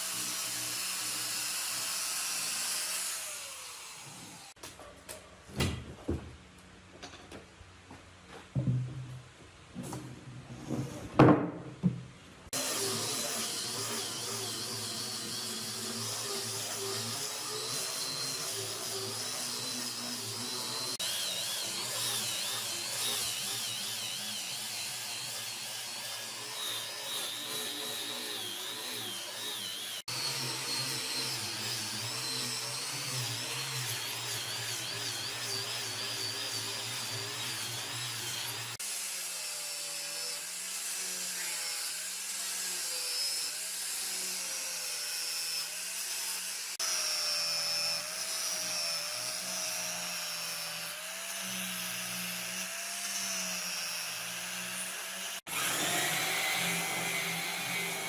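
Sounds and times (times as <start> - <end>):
power tools whining: 0.0 - 4.6, 12.5 - 58.0.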